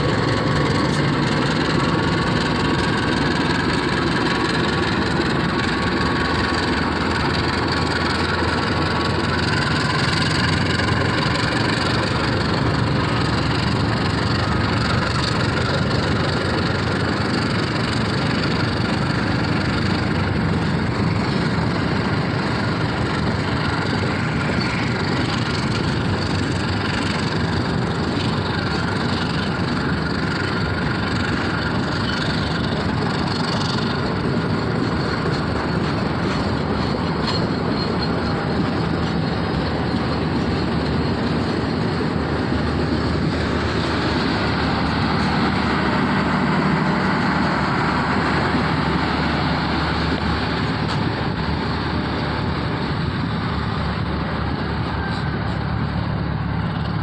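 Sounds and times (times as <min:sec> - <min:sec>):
passenger train passing: 0:00.0 - 0:57.0.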